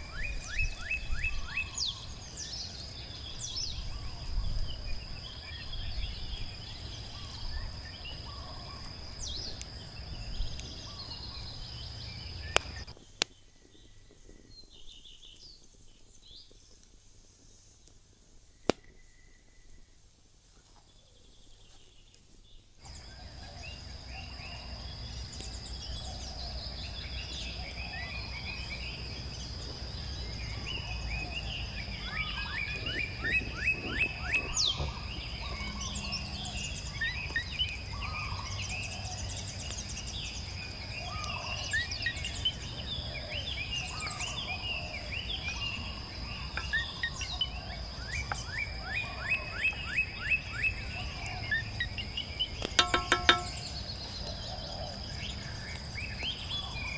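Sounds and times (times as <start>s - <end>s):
birds singing and calling: 0.0s - 16.8s, 20.8s - 56.9s.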